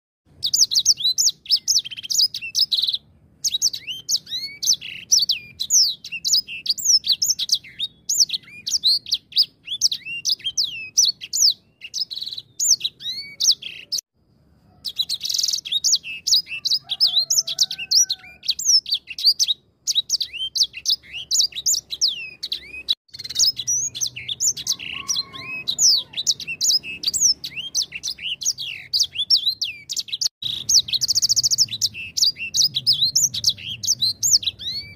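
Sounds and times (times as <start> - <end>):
finch singing: 0.3 - 14.0, 14.8 - 34.9.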